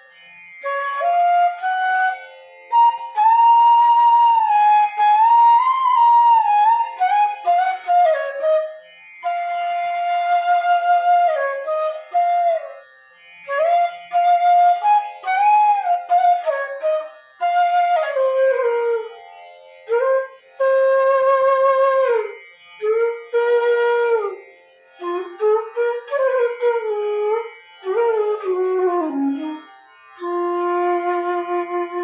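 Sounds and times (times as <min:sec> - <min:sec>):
bamboo flute melody: 0:00.0 - 0:32.0.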